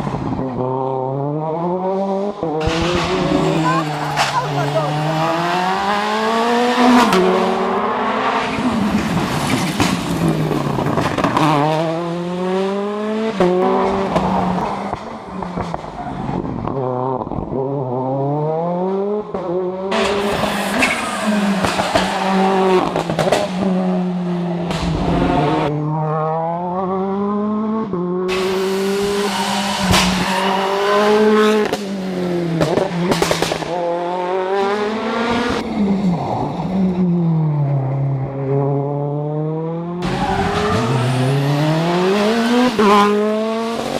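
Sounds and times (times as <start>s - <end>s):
car passing at speed: 0.0s - 43.9s
rally car engine revving: 0.0s - 43.9s.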